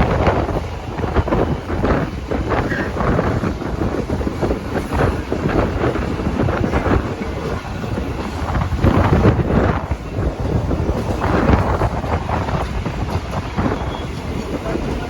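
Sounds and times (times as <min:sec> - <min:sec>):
train rumbling and rattling: 0:00.0 - 0:15.0
wind buffeting microphone: 0:00.0 - 0:15.0.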